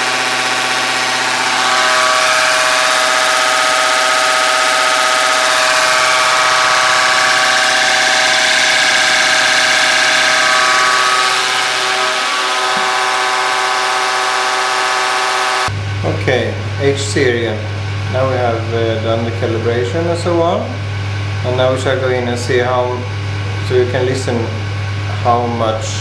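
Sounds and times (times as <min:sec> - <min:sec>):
test bench mechanical whine: 0:00.0 - 0:26.0.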